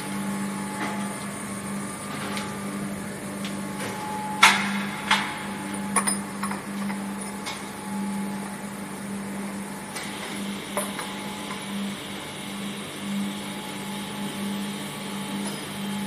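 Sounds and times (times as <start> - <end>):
foundry machinery hum: 0.0 - 16.0.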